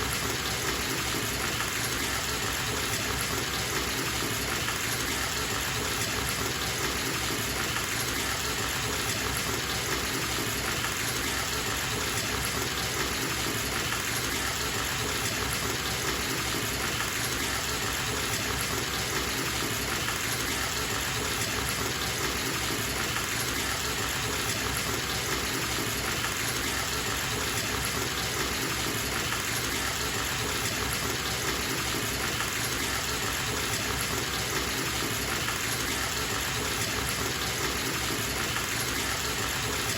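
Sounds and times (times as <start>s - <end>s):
water gushing from a tap: 0.0s - 39.9s.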